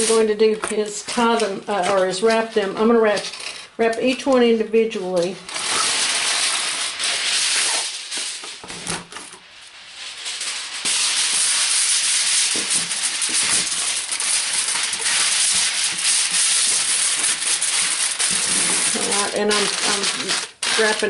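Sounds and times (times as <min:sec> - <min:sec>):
aluminium foil crinkling: 0:00.0 - 0:04.5, 0:05.1 - 0:21.0.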